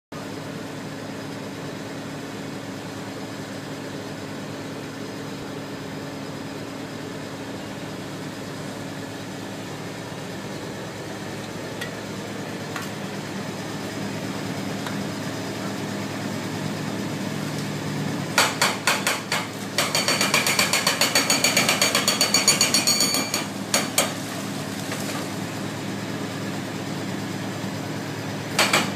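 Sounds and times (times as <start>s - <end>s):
diesel engine running under load: 0.2s - 28.9s.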